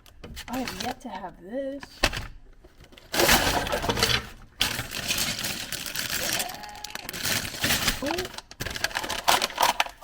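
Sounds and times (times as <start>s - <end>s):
plastic packaging and pieces rattling: 0.0s - 1.2s, 1.9s - 10.0s.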